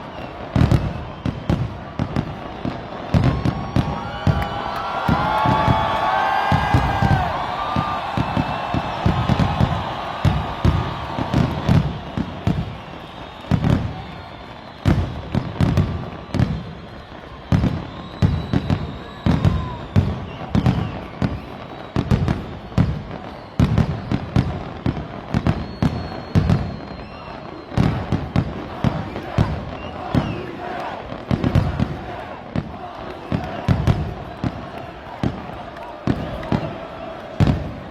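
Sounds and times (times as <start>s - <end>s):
fireworks cracking and booming: 0.0s - 37.9s.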